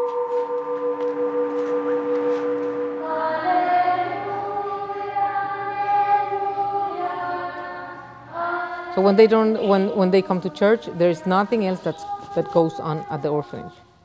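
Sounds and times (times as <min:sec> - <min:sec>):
steady held tone: 0:00.0 - 0:13.3
choir chanting: 0:00.0 - 0:13.8.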